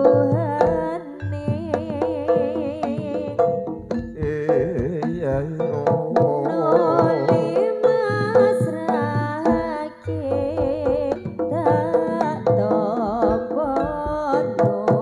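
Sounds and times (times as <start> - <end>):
sharp drum strokes: 0.0 - 15.0.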